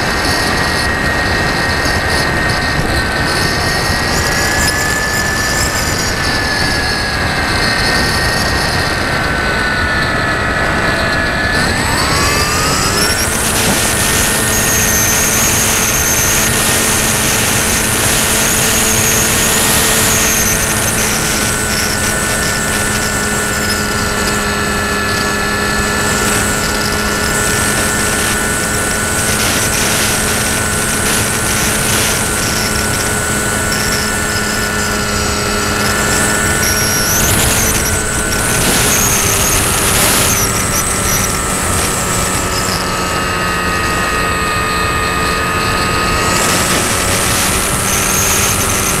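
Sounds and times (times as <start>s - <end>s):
model aircraft motor whine: 0.0s - 49.0s
wind rushing over microphone: 0.0s - 49.0s.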